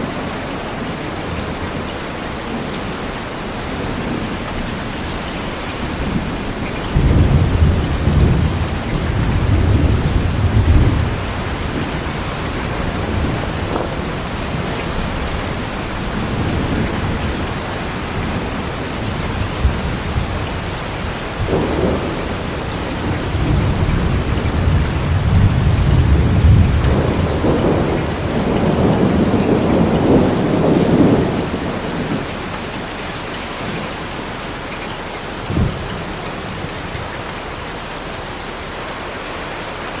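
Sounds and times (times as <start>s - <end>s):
heavy rain: 0.0s - 40.0s
thunder rumbling: 1.4s - 32.9s, 35.4s - 37.5s.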